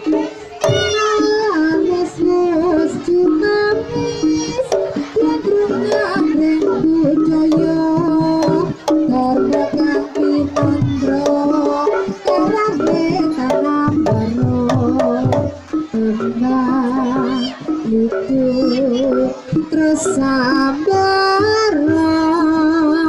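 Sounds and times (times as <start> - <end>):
gamelan melody of wavering notes: 0.0 - 23.0
hand drum strokes: 0.0 - 23.0.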